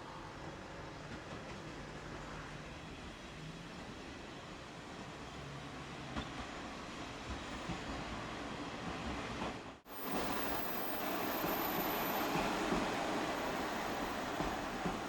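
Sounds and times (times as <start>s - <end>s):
diesel railcar on rails: 0.0s - 15.0s.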